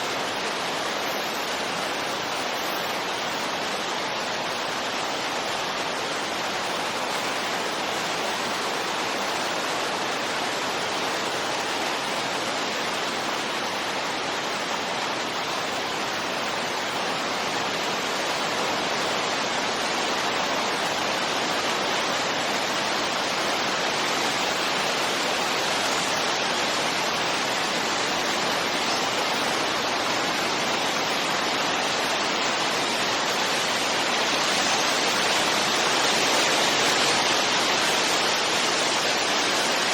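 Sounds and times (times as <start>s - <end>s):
steady wind hiss: 0.0s - 39.9s.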